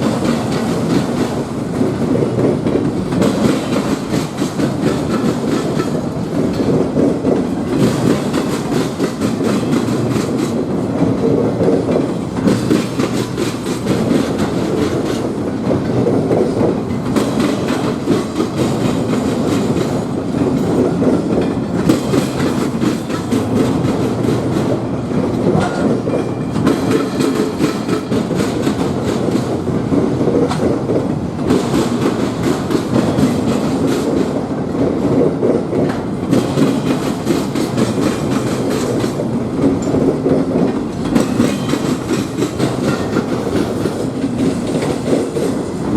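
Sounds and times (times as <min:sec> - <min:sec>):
train wheels clacking on rails: 0:00.0 - 0:45.9.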